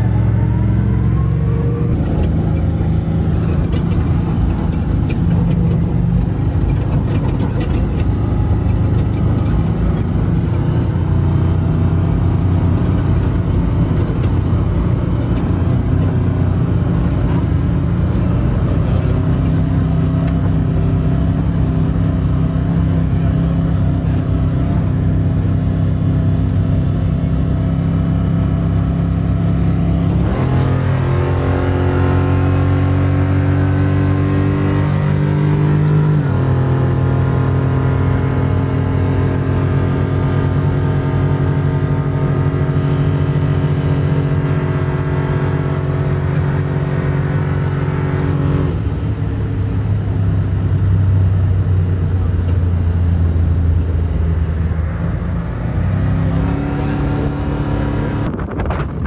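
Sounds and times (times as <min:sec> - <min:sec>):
truck engine running hard: 0:00.0 - 0:59.0.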